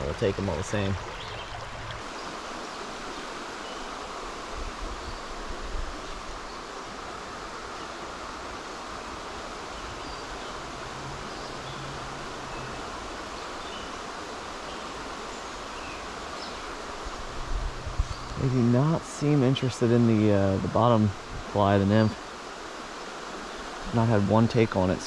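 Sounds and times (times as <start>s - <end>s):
stream flowing: 0.0s - 25.0s.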